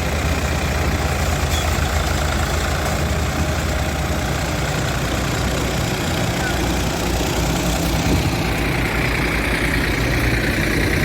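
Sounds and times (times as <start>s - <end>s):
tractor and harvester rumble: 0.0s - 11.0s.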